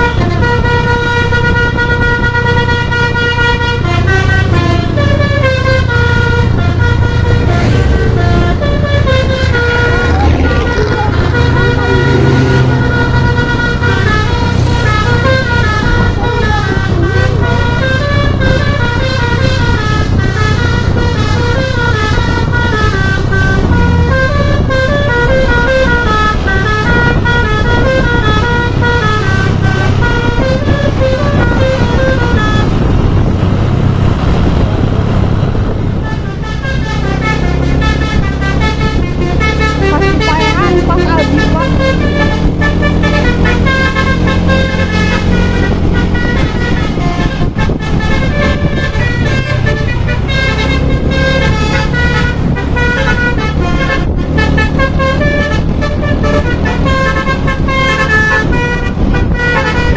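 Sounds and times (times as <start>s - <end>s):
bus engine running: 0.0s - 59.9s
multi-tone musical bus horn: 0.0s - 59.9s.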